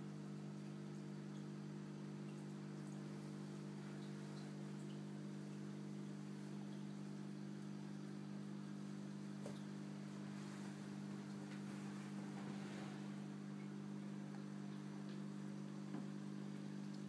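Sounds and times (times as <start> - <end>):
aquarium equipment hum: 0.0 - 17.0.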